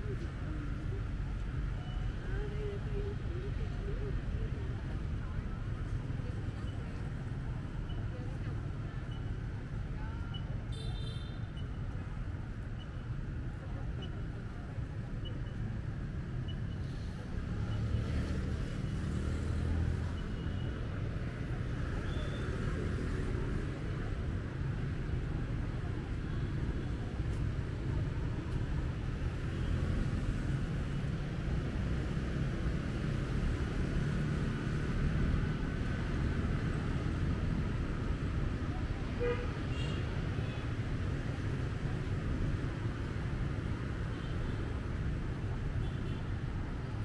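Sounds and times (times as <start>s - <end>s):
traffic rumble: 0.0s - 47.0s.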